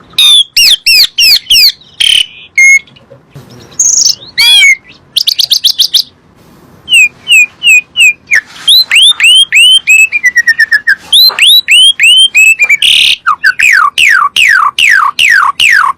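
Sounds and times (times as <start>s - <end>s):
starling singing whistled notes: 0.1s - 2.9s, 3.5s - 6.2s, 6.9s - 15.9s.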